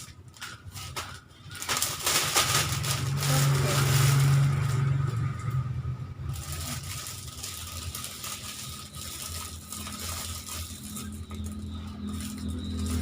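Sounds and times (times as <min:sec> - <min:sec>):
plastic packets crinkling: 0:00.0 - 0:13.0.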